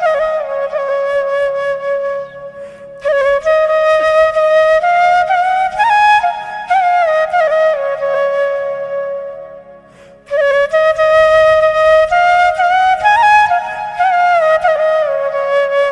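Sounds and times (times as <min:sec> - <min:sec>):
flute playing folk melody: 0:00.0 - 0:15.9.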